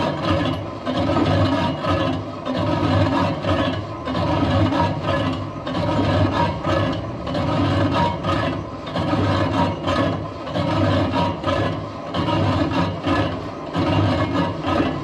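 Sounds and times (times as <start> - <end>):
lathe machining metal: 0.0 - 15.0.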